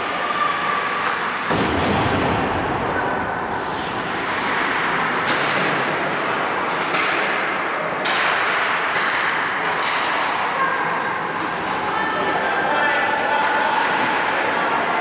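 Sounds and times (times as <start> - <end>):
hockey sticks and puck clacking: 0.0 - 15.0
skates scraping ice: 2.2 - 15.0.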